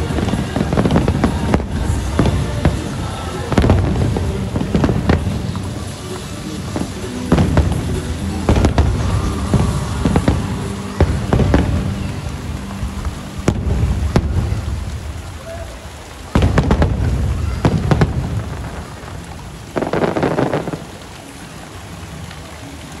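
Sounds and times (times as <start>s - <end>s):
fireworks booming: 0.0s - 21.0s
fireworks crackling: 0.0s - 23.0s.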